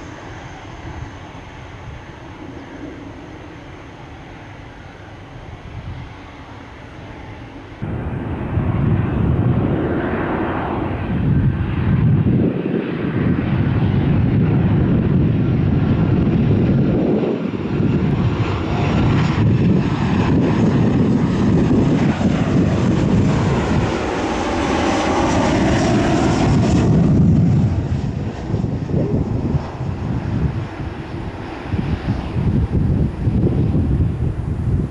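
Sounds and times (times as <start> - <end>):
jet airliner passing: 0.0 - 34.9.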